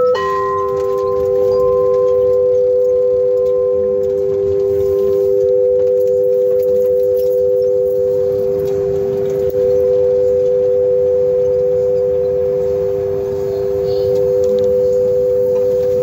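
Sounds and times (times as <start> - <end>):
crystal singing bowls ringing: 0.0 - 16.0
lower bowl struck: 0.0 - 16.0.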